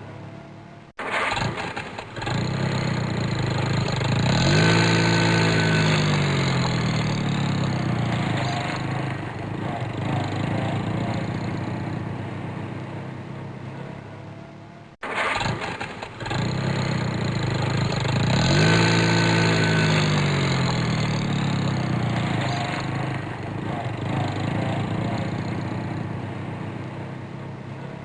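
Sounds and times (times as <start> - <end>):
car engine starting and idling: 0.0 - 28.0.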